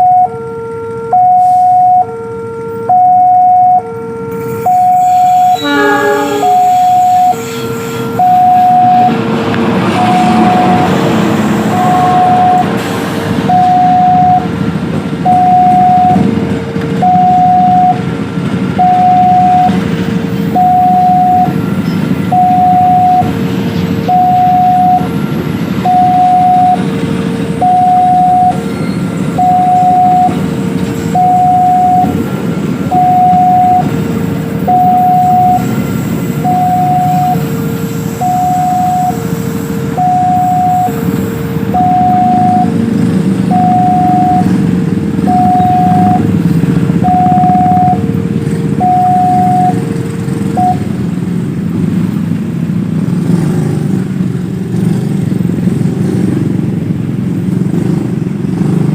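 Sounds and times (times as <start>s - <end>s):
two-tone crossing alarm: 0.0s - 51.5s.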